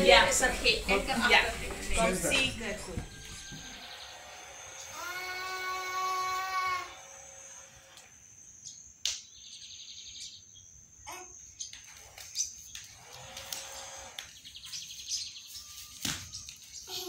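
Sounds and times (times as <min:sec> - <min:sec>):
bird chirping trills: 0:02.6 - 0:17.0.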